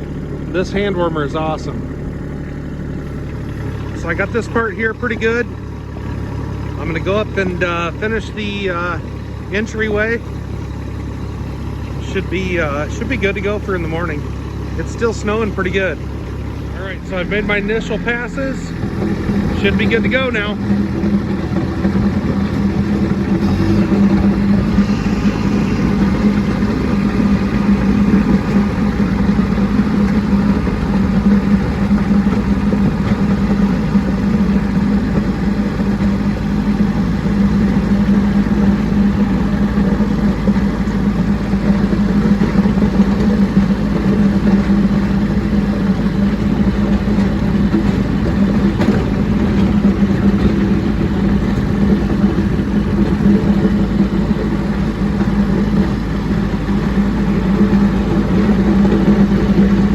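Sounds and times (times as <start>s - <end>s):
tractor diesel engine running: 0.0s - 59.9s
blade plowing snow: 11.7s - 59.9s.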